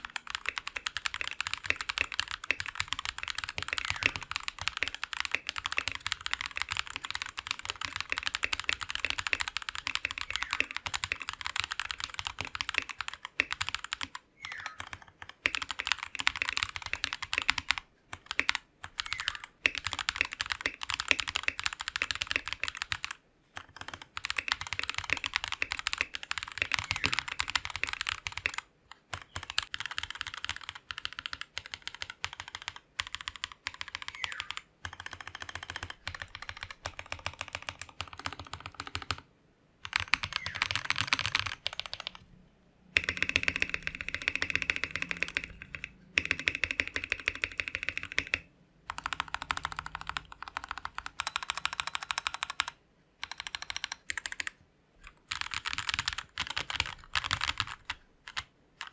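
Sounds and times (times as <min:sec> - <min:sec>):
mechanical keyboard typing: 0:00.0 - 0:42.2, 0:43.0 - 0:58.9.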